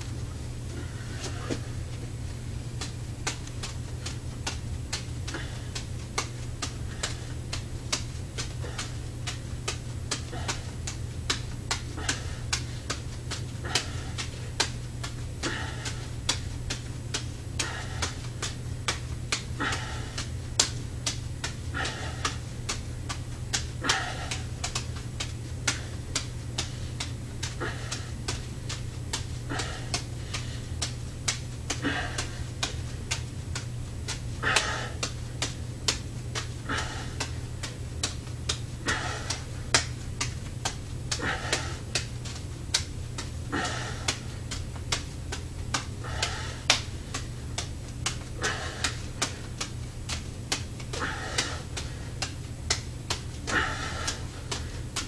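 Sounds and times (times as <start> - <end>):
juggling balls slapping hand: 0.0 - 55.0
low hum: 0.0 - 55.0.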